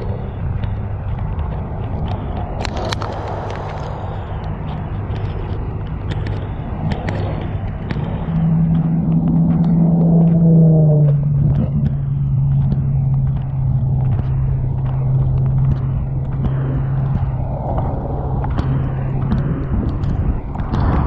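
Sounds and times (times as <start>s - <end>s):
engine drone: 0.0s - 21.0s
low rumble: 0.0s - 21.0s
scattered clicks: 0.0s - 21.0s.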